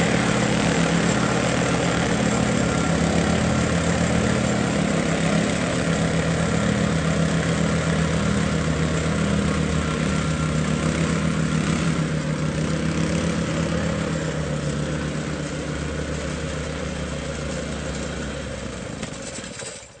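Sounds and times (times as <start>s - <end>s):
plate compactor engine drone: 0.0s - 20.0s.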